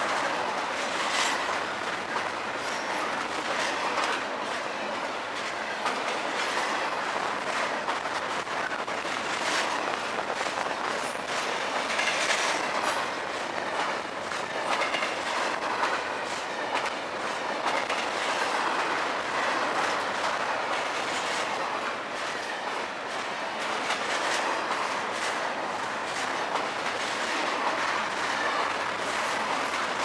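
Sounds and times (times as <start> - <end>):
train wheels rumbling on rail: 0.0 - 30.0
wheels clacking over rail joints: 0.0 - 30.0.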